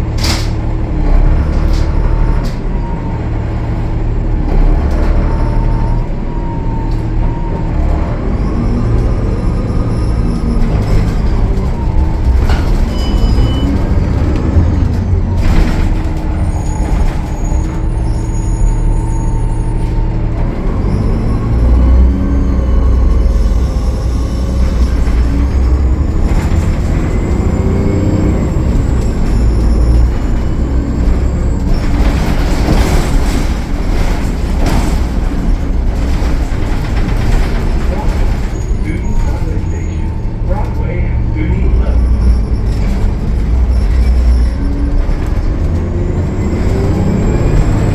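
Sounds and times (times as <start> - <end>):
bus diesel engine rumbling: 0.0 - 47.9
road noise: 0.0 - 47.9.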